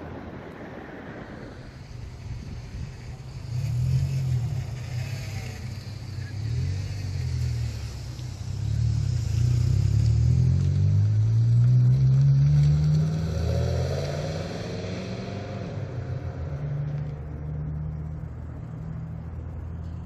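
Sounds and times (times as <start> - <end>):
vehicle engine pulling away: 1.7 - 20.0.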